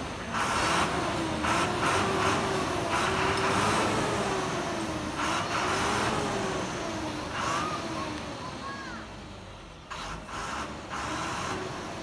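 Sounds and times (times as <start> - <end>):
wavering engine or pump: 0.0 - 12.0.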